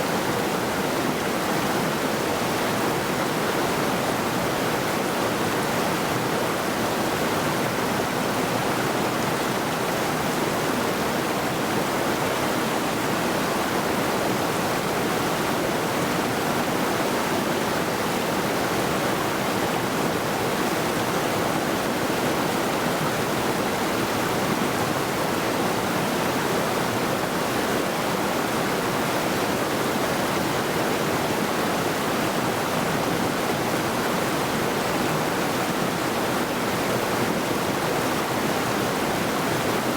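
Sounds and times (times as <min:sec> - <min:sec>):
river rushing over rocks: 0:00.1 - 0:39.9.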